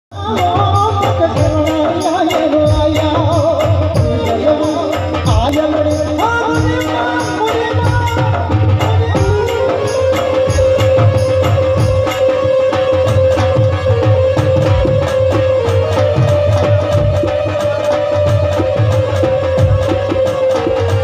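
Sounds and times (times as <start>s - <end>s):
dholak drum strokes: 0.1s - 21.0s
harmonium and keyboard notes: 0.1s - 21.0s.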